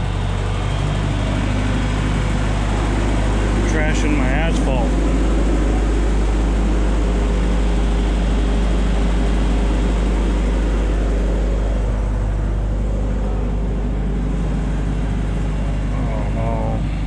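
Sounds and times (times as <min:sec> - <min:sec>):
forklift engine rumbling: 0:00.0 - 0:17.0.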